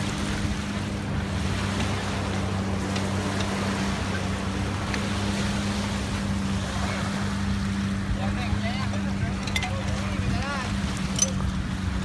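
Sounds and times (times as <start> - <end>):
boat engine running steadily: 0.0 - 12.0.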